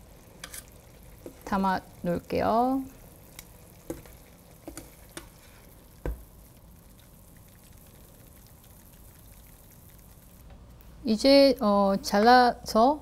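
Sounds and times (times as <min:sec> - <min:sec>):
sauce sizzling in pan: 0:00.0 - 0:10.7.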